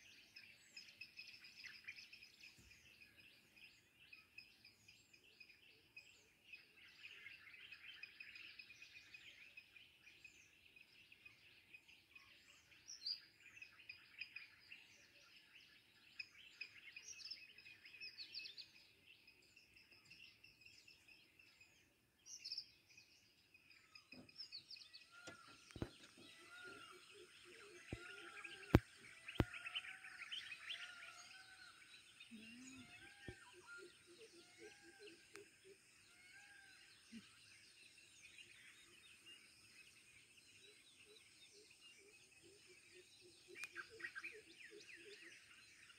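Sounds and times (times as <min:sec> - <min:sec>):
wild birds chirping and whistling: 0:00.0 - 0:45.9.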